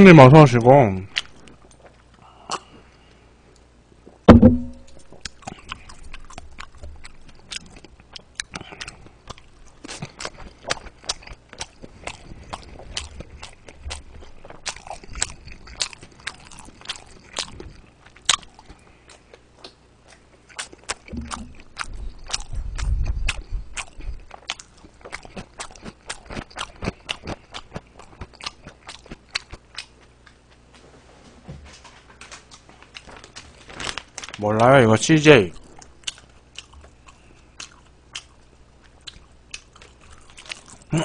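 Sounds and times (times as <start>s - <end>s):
chewing with mouth clicks: 1.1s - 3.7s, 4.9s - 30.7s, 35.5s - 41.0s.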